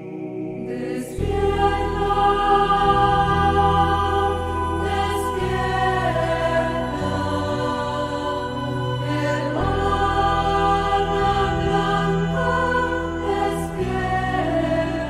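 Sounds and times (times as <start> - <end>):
choir singing: 0.0 - 15.0
sustained instrumental accompaniment: 0.0 - 15.0
deep bass: 1.2 - 15.0.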